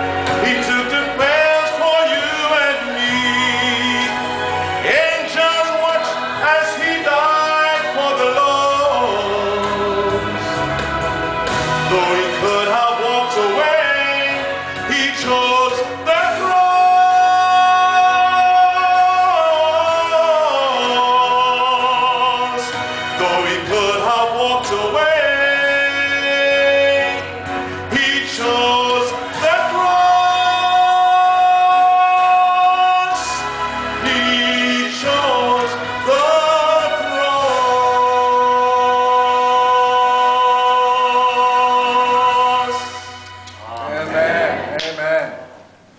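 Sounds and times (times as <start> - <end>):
man singing gospel solo: 0.0 - 43.4.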